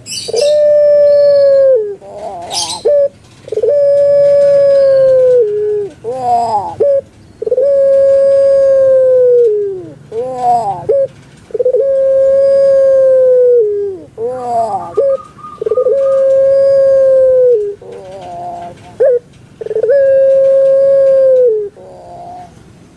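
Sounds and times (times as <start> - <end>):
dove cooing: 0.0 - 22.6.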